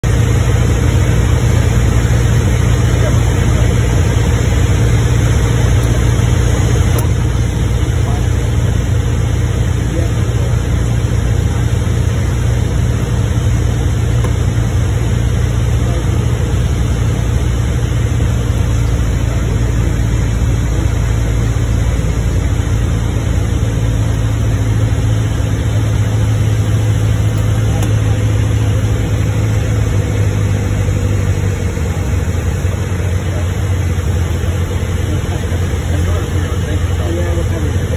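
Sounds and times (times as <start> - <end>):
aircraft engine and propeller droning: 0.0 - 37.9.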